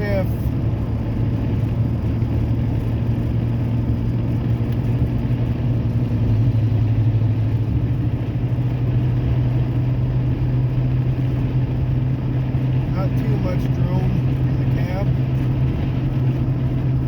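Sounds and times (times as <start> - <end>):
truck exhaust drone: 0.0 - 17.0.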